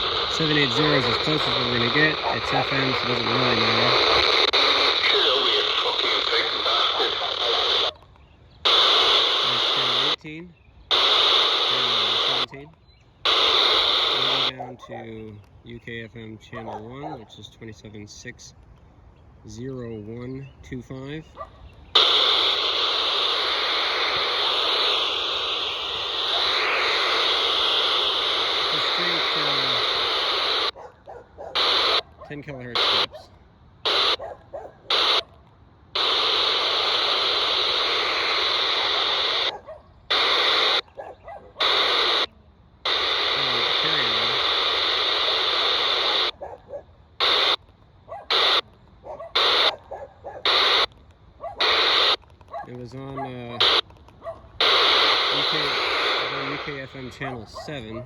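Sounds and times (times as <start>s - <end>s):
radio static hiss: 0.0s - 18.6s, 19.3s - 30.8s, 31.5s - 58.0s.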